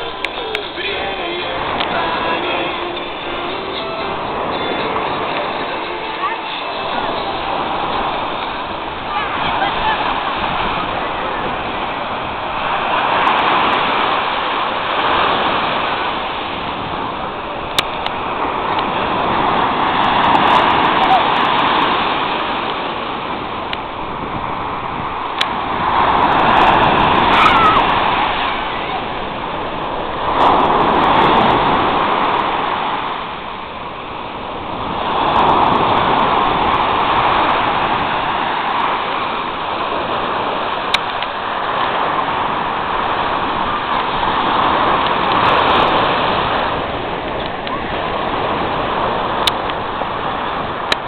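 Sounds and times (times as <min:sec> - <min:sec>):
small waves breaking on beach: 0:00.0 - 0:51.0.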